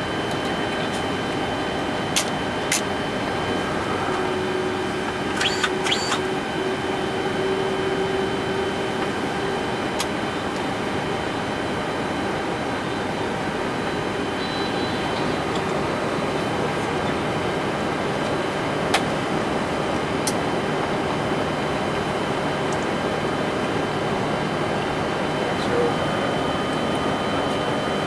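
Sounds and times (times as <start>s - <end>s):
engine hum with tones: 0.0s - 28.0s.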